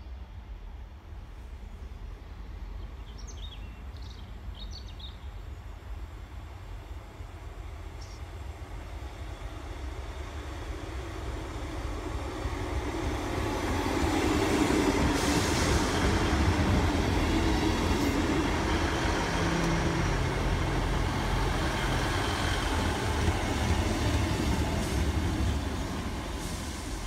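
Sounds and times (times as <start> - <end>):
diesel train engine drone: 0.0 - 27.0
train wheels rumbling: 0.0 - 27.0.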